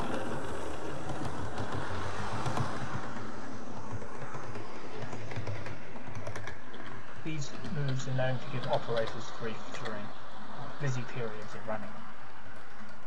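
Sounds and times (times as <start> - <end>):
model train whirring on track: 0.0 - 13.0.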